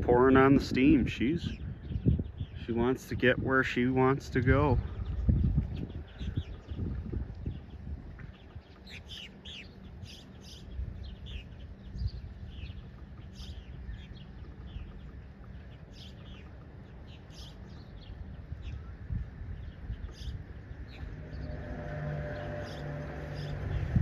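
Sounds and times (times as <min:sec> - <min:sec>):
steady low rumble: 0:00.0 - 0:24.0
small birds chirping: 0:00.2 - 0:24.0.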